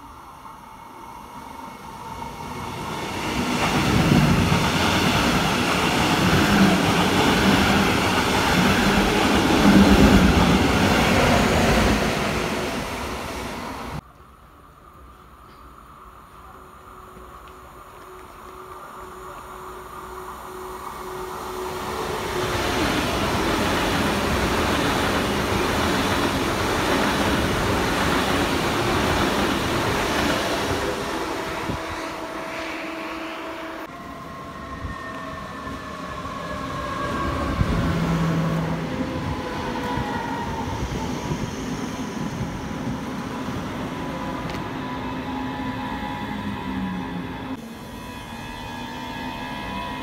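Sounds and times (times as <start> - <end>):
high-speed train rushing past: 0.0 - 14.0, 16.1 - 50.0.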